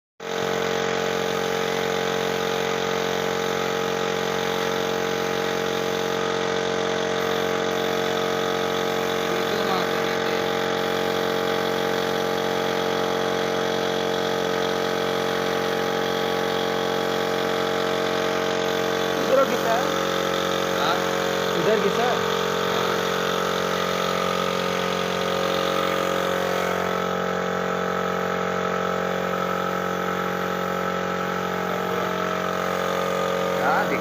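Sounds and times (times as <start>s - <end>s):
machine humming steadily: 0.2s - 34.0s.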